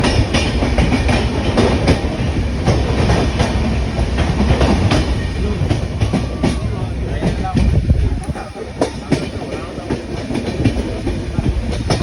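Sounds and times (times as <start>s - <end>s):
train rumbling on rails: 0.0s - 12.0s
wheels clicking over rail joints: 0.0s - 12.0s.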